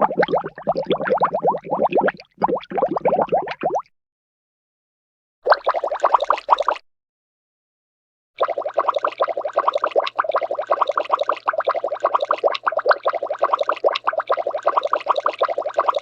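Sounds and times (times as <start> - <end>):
cartoon water bubbling: 0.0 - 3.9, 5.5 - 6.8, 8.4 - 16.0.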